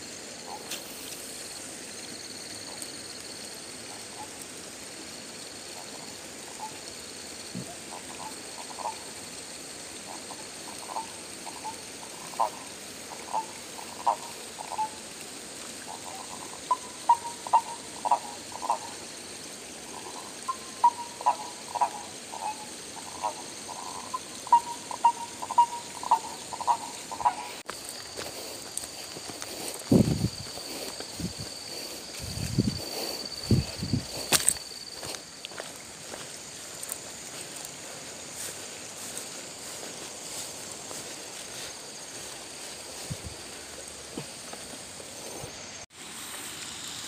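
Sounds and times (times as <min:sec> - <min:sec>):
frogs croaking: 0:00.0 - 0:45.7.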